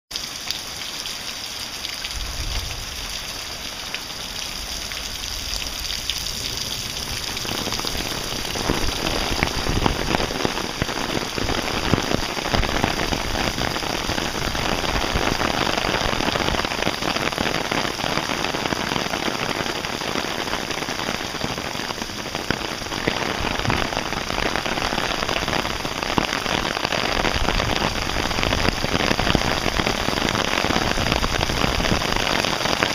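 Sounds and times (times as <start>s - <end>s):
heavy rain on pavement: 0.1s - 32.9s.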